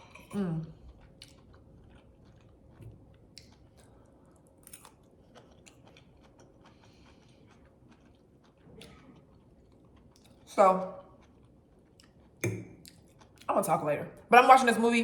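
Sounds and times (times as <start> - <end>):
person chewing: 0.0 - 13.5.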